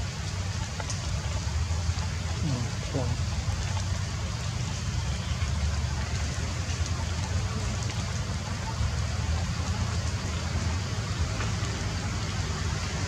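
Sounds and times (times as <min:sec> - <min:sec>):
rain pattering on leaves: 0:00.0 - 0:13.0.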